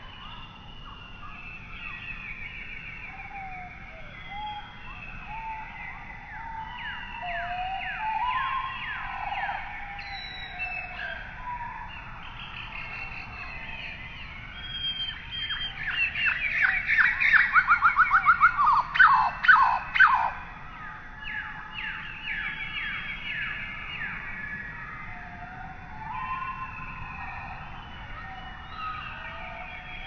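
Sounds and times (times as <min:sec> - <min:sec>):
birds chirping: 0:00.1 - 0:25.2.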